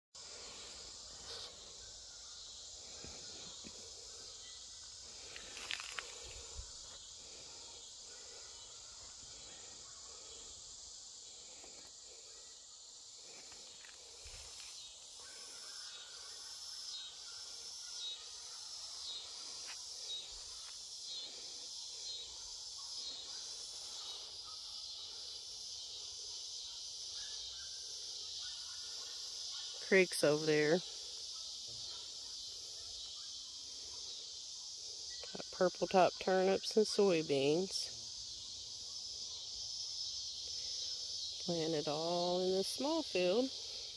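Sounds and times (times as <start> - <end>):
insect chorus buzzing: 0.2 - 43.9
rhythmic pulsing insect call: 0.2 - 43.9.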